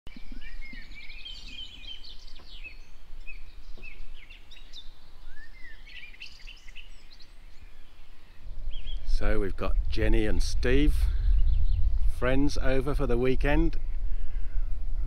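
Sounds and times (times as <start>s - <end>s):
songbirds chirping and trilling: 0.1s - 15.0s.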